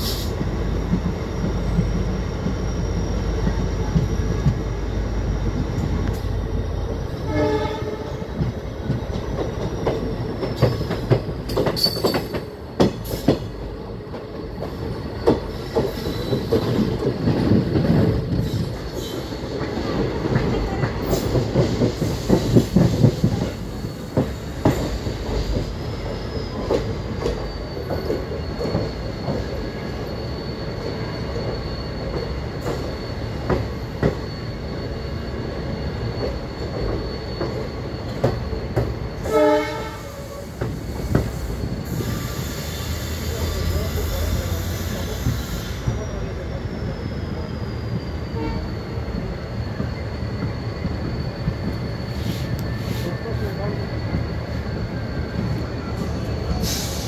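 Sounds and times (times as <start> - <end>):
high wheel squeal: 0.0 - 57.0
train wheels rumbling on track: 0.0 - 57.0.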